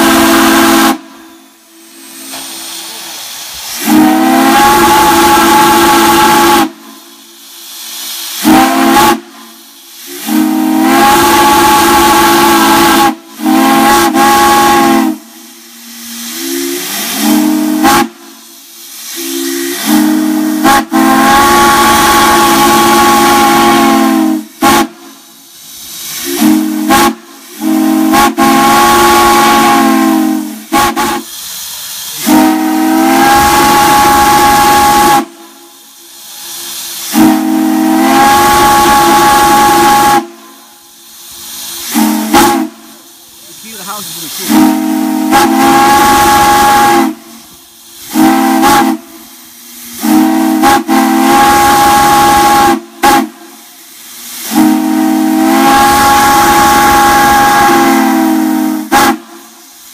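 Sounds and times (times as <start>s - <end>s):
steam hissing: 0.0s - 59.9s
three-chime steam whistle blasts: 0.0s - 59.9s.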